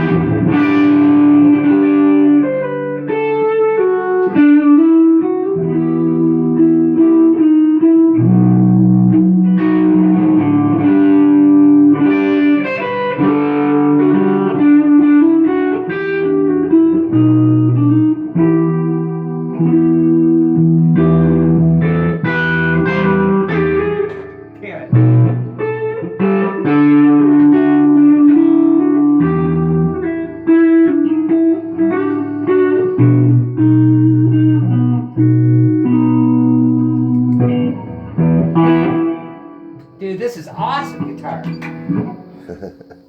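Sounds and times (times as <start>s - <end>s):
electric guitar chords: 0.0s - 43.0s.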